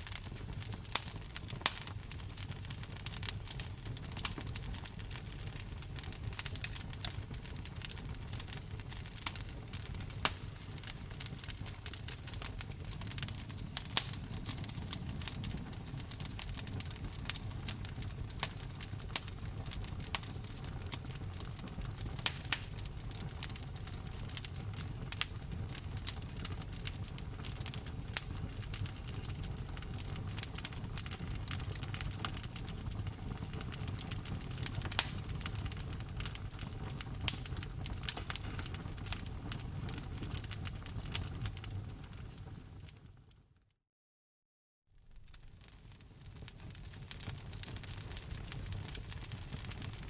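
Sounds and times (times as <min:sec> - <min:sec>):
low rumble of flame: 0:00.0 - 0:43.3, 0:45.0 - 0:50.0
wood fire crackling and popping: 0:00.0 - 0:43.4, 0:45.0 - 0:50.0.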